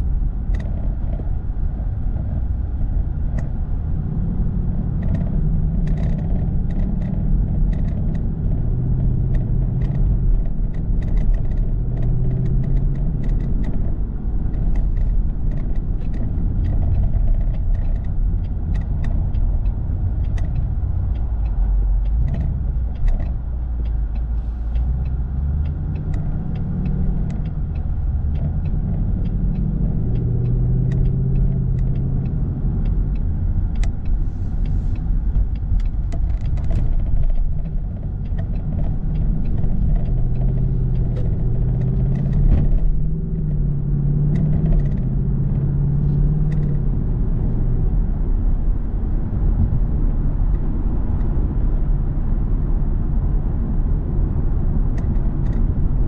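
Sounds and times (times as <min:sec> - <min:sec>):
car engine accelerating: 0:00.0 - 0:56.0
road rumble: 0:00.0 - 0:56.0.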